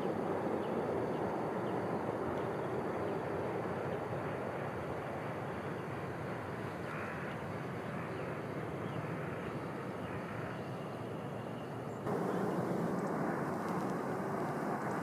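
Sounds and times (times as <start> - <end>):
distant high-speed train rushing: 0.0 - 15.0.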